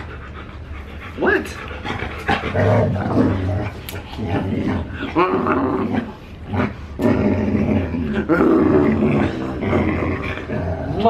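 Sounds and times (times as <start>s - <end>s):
dog grumbling and growl-talking: 1.0s - 11.0s.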